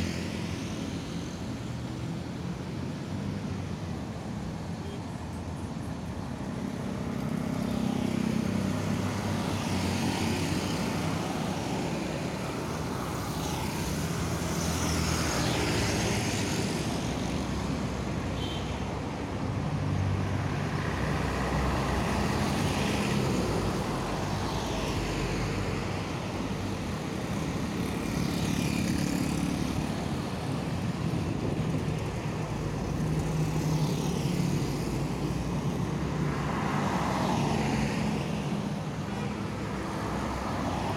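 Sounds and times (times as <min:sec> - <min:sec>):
cars and trucks passing: 0:00.0 - 0:40.9.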